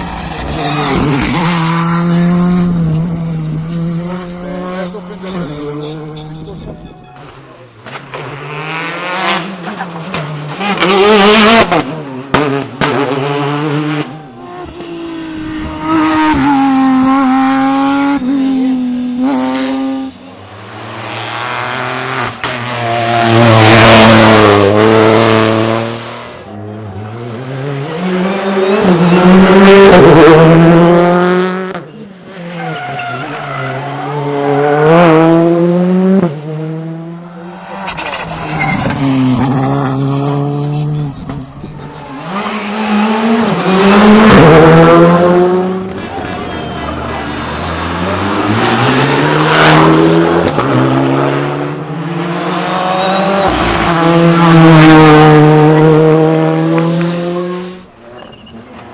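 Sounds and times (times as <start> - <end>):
rally car engines revving: 0.0 - 58.9.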